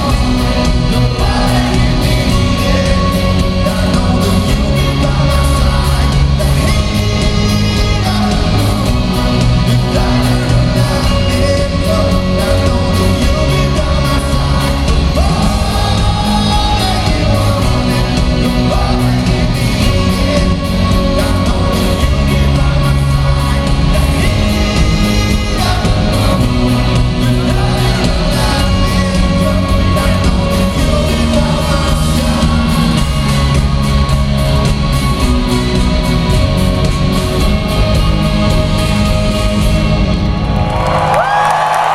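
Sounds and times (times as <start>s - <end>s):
person singing lead vocal: 0.0s - 39.7s
drums: 0.0s - 41.9s
electric guitars: 0.0s - 41.9s.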